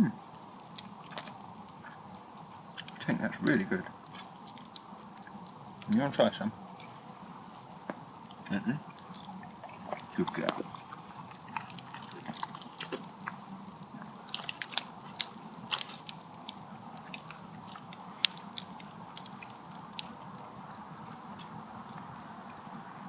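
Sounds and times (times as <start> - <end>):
chewing steak: 0.4 - 6.0, 6.6 - 22.6.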